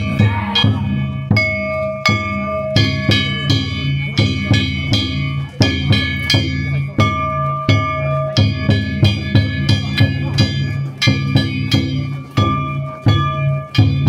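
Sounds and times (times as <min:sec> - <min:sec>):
metal gongs ringing: 0:00.0 - 0:14.0
taiko drum beat: 0:00.0 - 0:14.0.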